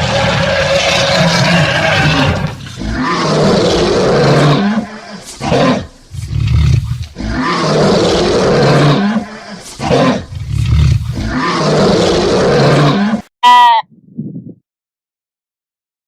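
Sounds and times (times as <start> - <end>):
large animal roaring: 0.0 - 13.3.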